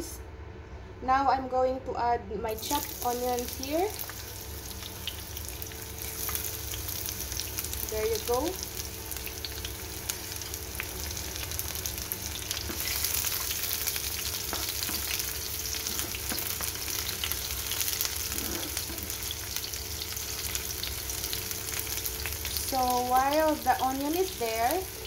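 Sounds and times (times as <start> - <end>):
onions sizzling in oil: 2.6 - 25.0.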